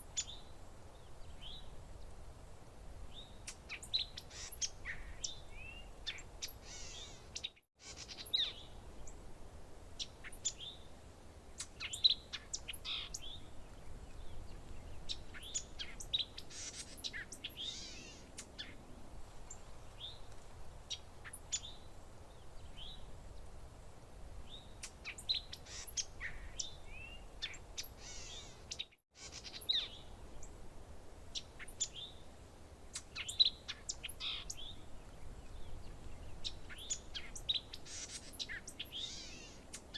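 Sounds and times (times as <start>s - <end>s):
faint low background hiss: 0.0s - 39.9s
songbirds chirping: 0.0s - 39.9s.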